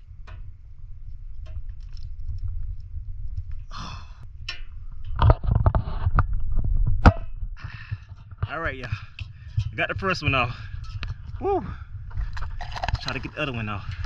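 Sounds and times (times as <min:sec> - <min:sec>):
microphone handling rumble: 0:00.0 - 0:14.0.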